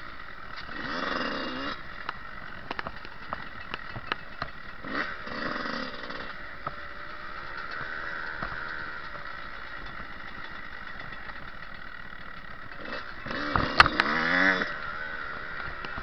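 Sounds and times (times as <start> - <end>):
dirt bike engine: 0.0 - 16.0.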